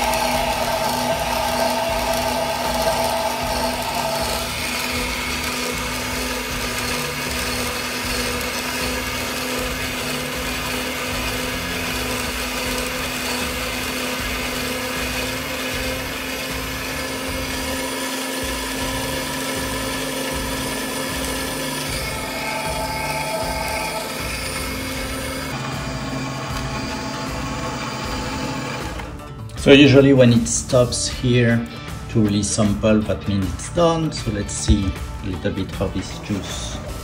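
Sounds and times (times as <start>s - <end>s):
juicer motor hum: 0.0s - 29.7s.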